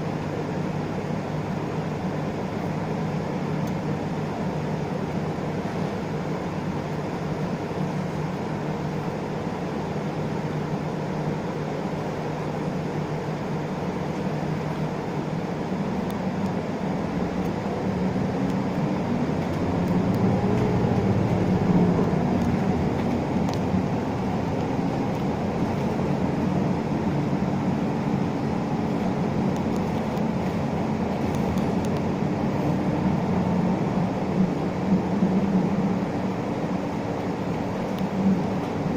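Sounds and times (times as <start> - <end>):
bus diesel engine hum: 0.0 - 38.9
road noise: 0.0 - 38.9.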